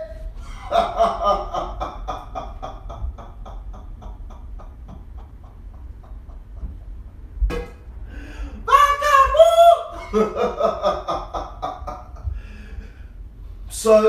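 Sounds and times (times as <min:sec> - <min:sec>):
man laughing heartily: 0:00.0 - 0:07.4, 0:08.2 - 0:13.0.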